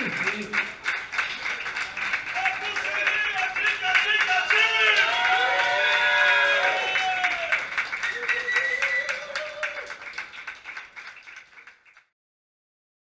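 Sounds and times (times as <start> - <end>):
group clapping: 0.0 - 12.1.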